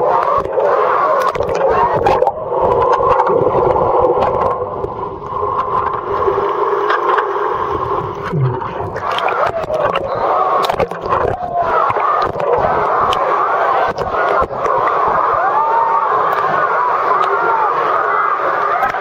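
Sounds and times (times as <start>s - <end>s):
muffled underwater rushing water: 0.0s - 19.0s.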